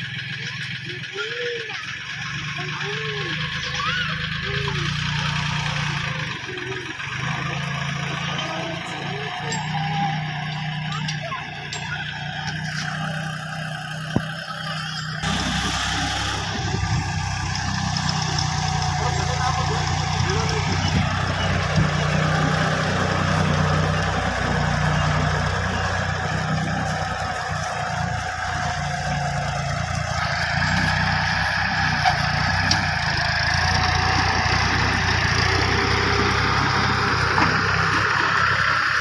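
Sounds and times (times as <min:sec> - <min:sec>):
diesel tractor engine running: 0:00.0 - 0:39.0.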